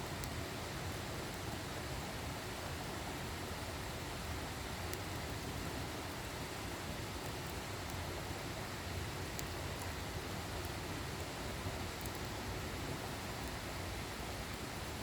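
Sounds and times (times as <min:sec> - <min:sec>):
faint fire crackles: 0:00.0 - 0:15.0
wood fire hissing: 0:00.0 - 0:15.0.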